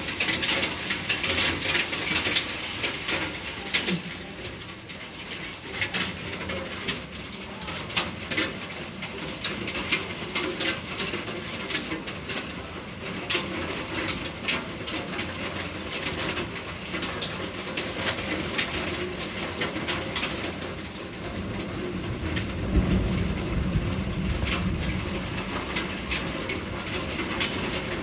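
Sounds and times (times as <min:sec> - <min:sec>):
hail and rain hiss: 0:00.0 - 0:28.0
hailstones clicking on surfaces: 0:00.0 - 0:28.0.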